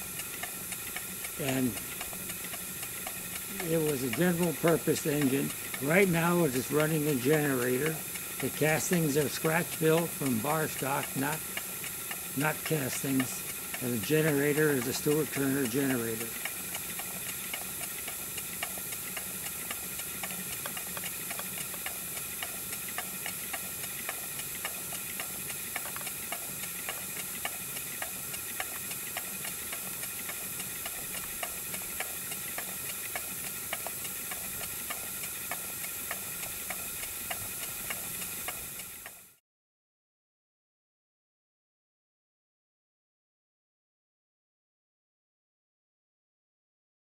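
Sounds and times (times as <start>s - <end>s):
light regular ticking: 0.0s - 39.2s
model steam engine hissing: 0.0s - 39.4s.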